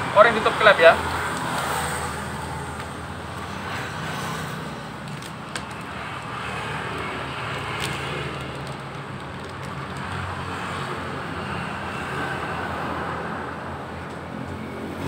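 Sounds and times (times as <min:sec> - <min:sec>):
low hum of traffic: 0:00.0 - 0:15.0.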